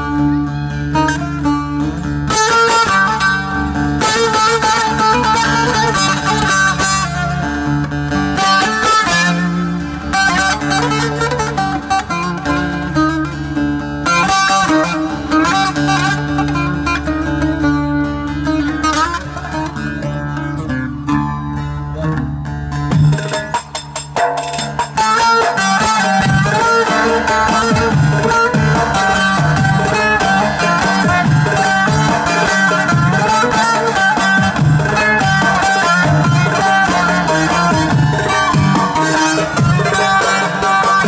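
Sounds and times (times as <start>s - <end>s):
plucked saz melody: 0.0s - 41.0s.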